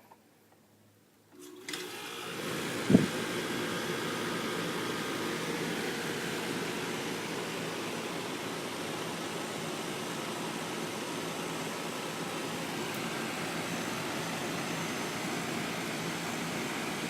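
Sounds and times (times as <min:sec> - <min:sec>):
heat pump running: 0:01.3 - 0:17.0.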